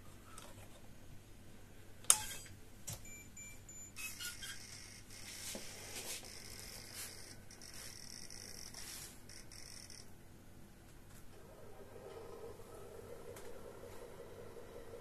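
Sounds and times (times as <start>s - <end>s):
faint high whine: 1.7s - 15.0s.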